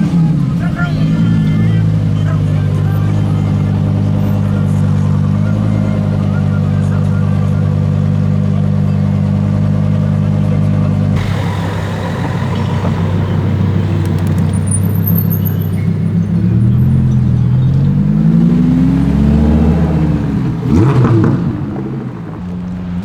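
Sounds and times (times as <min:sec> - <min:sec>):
sports car engine revving: 0:00.0 - 0:23.0.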